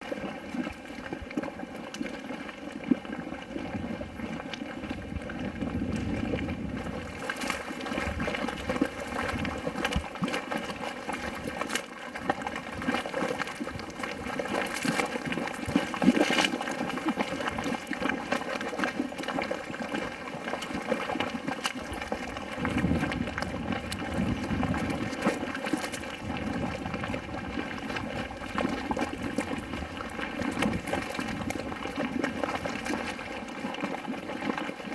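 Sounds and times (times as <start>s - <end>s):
mud bubbling and popping: 0.0s - 34.9s.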